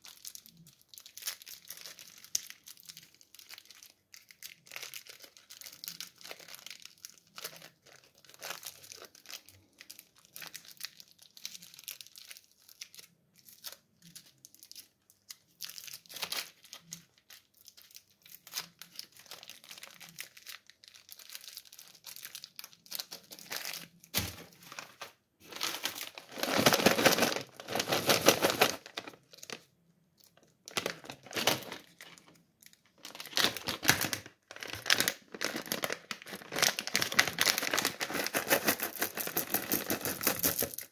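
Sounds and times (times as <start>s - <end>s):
plastic wrappers crinkling and tearing: 0.0s - 40.9s.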